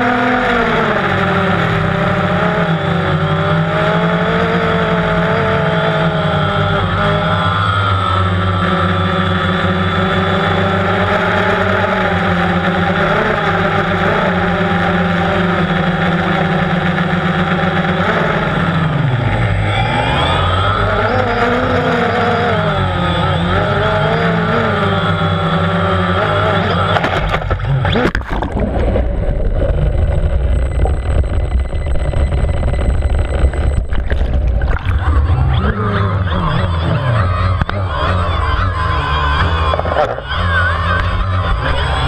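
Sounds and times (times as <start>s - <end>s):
drone propellers humming: 0.0s - 42.0s.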